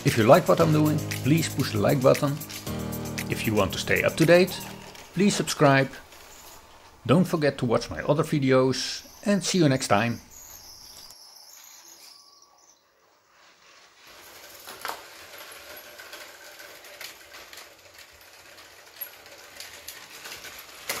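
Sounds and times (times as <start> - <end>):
toy train motor whirr: 0.0 - 7.0, 9.0 - 21.0
wheels clicking on track: 0.0 - 11.2, 13.6 - 21.0.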